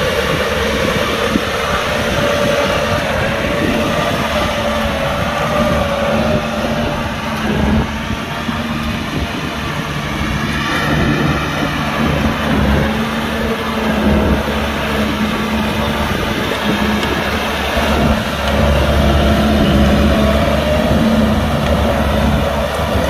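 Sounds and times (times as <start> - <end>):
tractor engine humming: 0.0 - 23.0.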